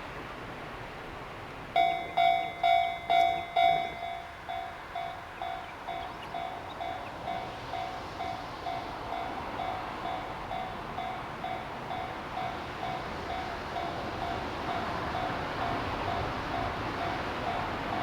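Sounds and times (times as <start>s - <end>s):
train rumble: 0.0s - 18.0s
level crossing warning bell: 1.8s - 18.0s.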